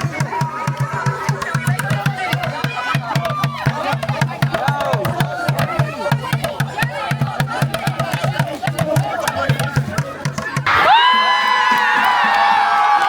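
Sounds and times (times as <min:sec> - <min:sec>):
many voices: 0:00.0 - 0:12.8.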